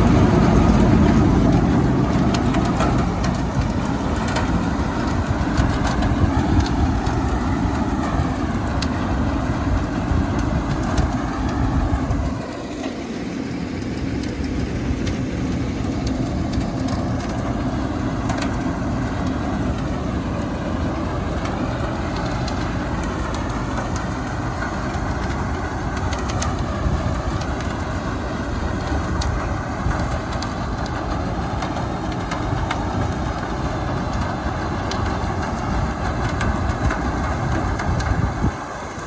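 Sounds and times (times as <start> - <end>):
thresher mechanical din: 0.0 - 39.0.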